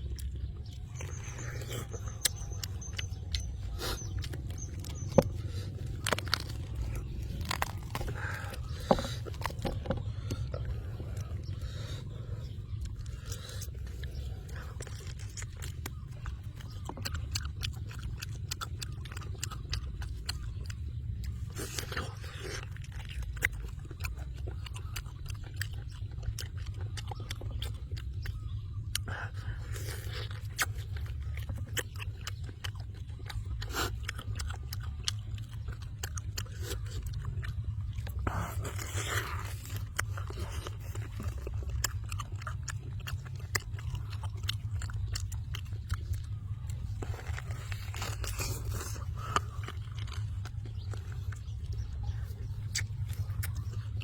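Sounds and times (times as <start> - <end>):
low rumble: 0.0 - 54.0
person chewing and biting: 0.0 - 54.0.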